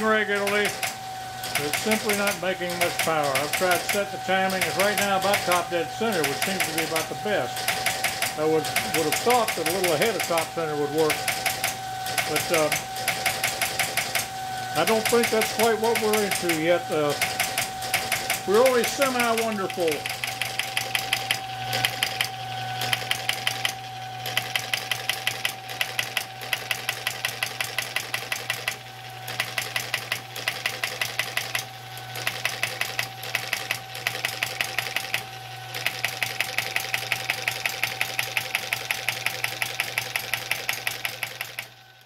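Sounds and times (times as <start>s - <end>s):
flywheel engine firing: 0.0s - 41.8s
electric motor hum and whine: 0.0s - 42.0s.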